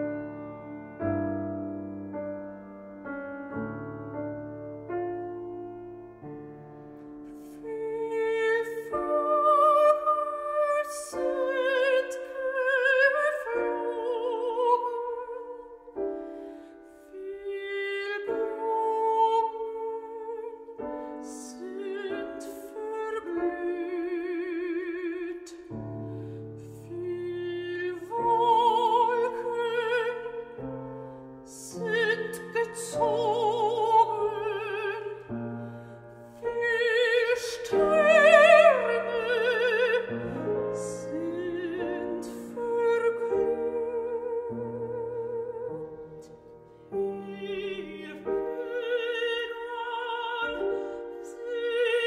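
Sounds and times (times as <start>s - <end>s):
two women singing a classical duet: 0.0s - 3.1s, 3.7s - 52.0s
piano accompaniment: 0.0s - 52.0s.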